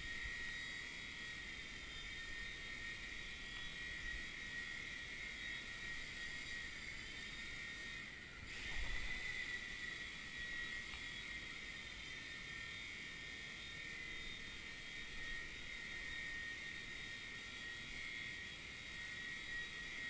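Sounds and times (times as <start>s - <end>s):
rc helicopter motors whining: 0.0s - 20.0s.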